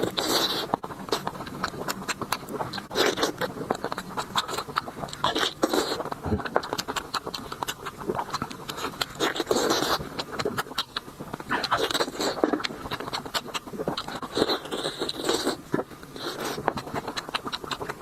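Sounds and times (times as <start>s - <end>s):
mouth clicks: 0.0s - 18.0s
wet chewing: 0.0s - 18.0s.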